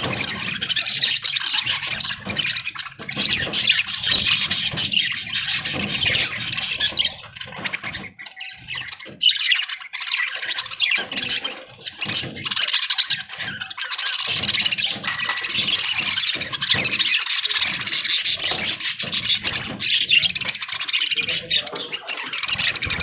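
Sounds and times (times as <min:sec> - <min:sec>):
budgerigars chattering: 0:00.0 - 0:23.0.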